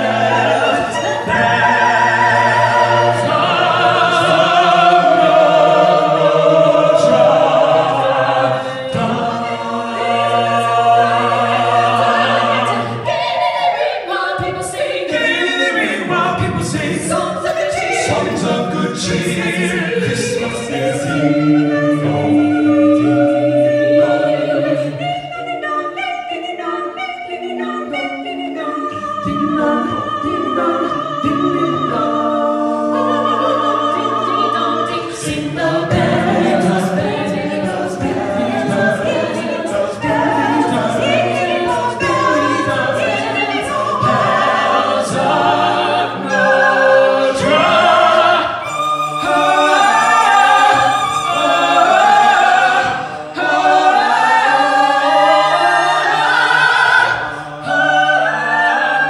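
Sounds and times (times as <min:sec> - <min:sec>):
a cappella group singing: 0:00.0 - 0:59.0.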